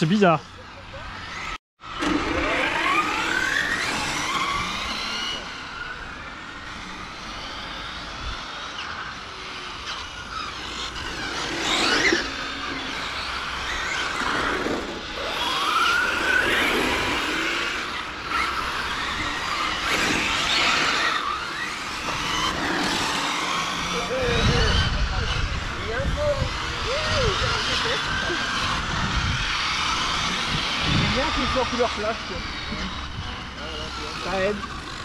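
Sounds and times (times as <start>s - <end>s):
rc car motors whining: 0.0s - 35.0s.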